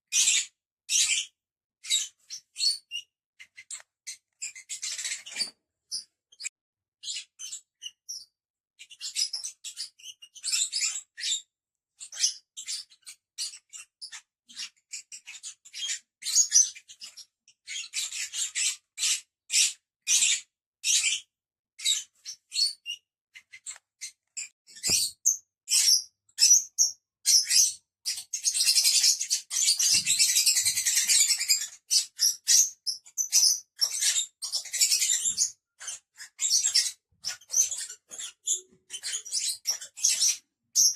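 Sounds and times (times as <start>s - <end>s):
lovebirds chirping: 0.1s - 8.2s, 12.0s - 40.9s.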